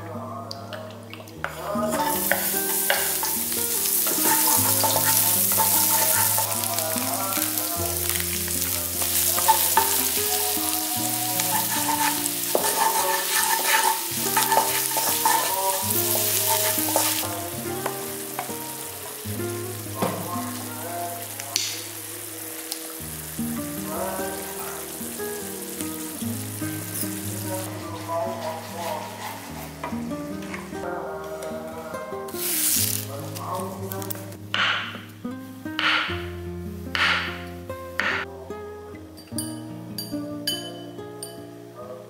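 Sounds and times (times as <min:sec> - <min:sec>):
background music: 0:00.0 - 0:42.0
food sizzling in a pan: 0:01.4 - 0:38.3.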